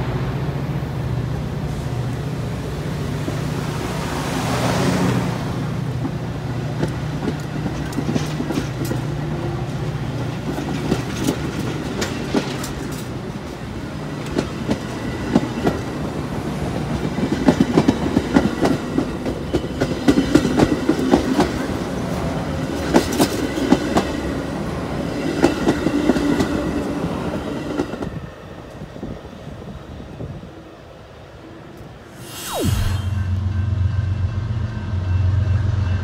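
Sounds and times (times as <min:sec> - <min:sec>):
train coaches rumbling on rails: 0:00.0 - 0:31.4.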